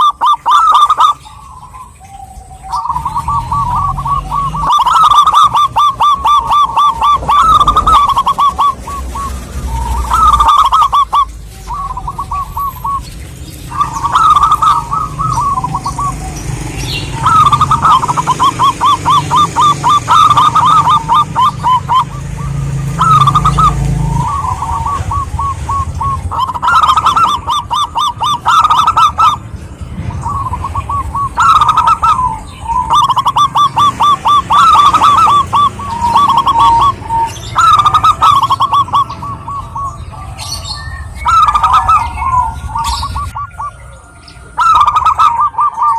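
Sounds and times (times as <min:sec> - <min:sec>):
doves cooing trills: 0:00.0 - 0:45.9.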